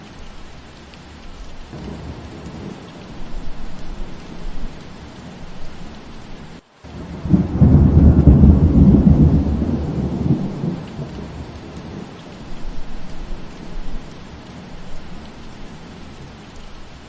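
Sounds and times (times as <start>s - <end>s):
steady rainfall: 0.0s - 17.0s
thunder rumbling: 1.7s - 16.4s.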